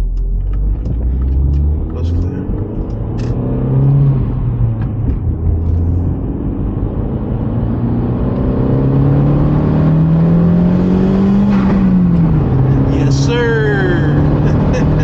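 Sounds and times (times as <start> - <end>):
car engine accelerating: 0.0 - 15.0
road noise: 0.0 - 15.0.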